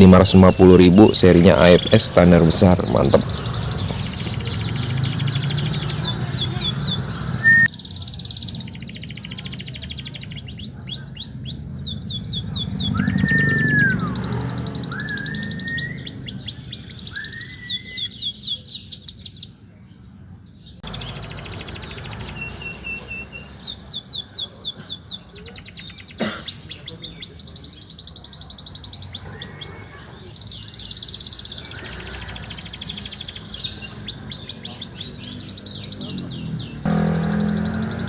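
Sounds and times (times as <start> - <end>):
canary trilling and chirping: 0.0 - 19.5, 20.8 - 38.0.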